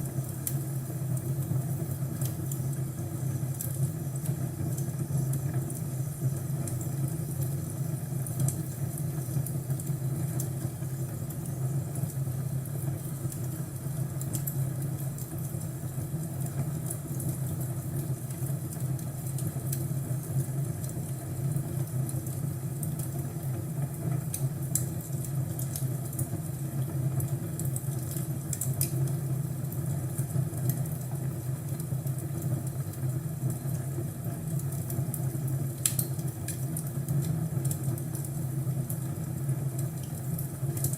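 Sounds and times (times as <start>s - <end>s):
fire crackling and popping: 0.0s - 40.9s
low fire rumble: 0.0s - 40.9s.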